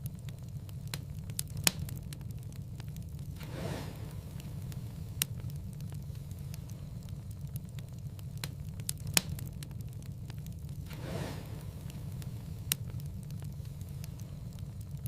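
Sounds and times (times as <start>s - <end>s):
low rumble of burning logs: 0.0s - 15.0s
wood fire crackling and popping: 0.0s - 15.0s
soft rush of noise: 2.5s - 15.0s.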